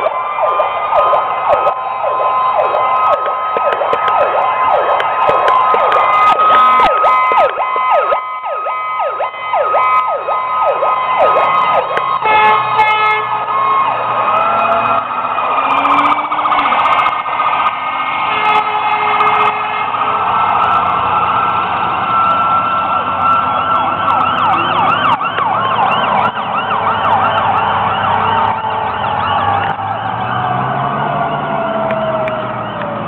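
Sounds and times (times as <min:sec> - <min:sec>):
siren wailing: 0:00.0 - 0:33.0
siren yelping: 0:00.0 - 0:33.0
truck engines rumbling: 0:00.0 - 0:33.0.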